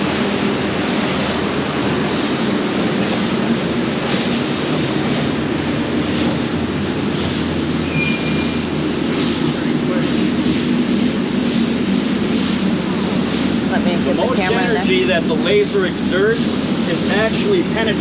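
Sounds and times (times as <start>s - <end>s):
laser cutting machine humming: 0.0s - 18.0s.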